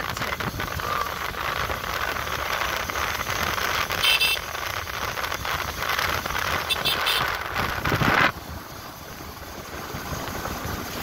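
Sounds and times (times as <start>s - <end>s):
motorbike wind road and engine noise: 0.0s - 11.0s.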